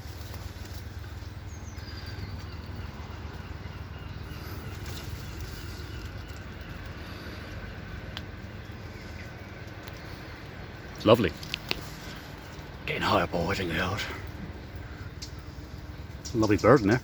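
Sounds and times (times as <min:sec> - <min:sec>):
faint bird chirps: 0:00.0 - 0:17.0
outdoor background noise: 0:00.0 - 0:17.0.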